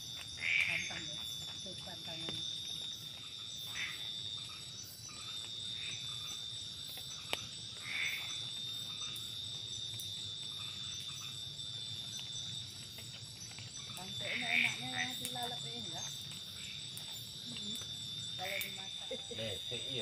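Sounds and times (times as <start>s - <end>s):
frogs calling: 0.0s - 20.0s
night insects trilling: 0.0s - 20.0s.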